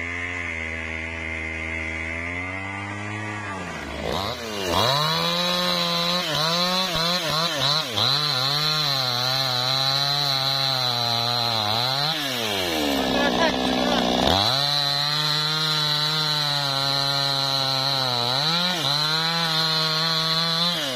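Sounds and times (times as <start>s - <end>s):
chainsaw sawing wood: 0.0s - 20.9s.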